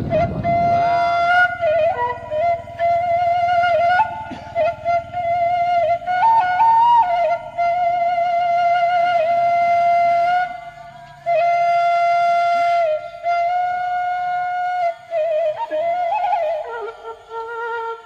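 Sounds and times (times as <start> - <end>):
flute playing slow melody: 0.0 - 18.0.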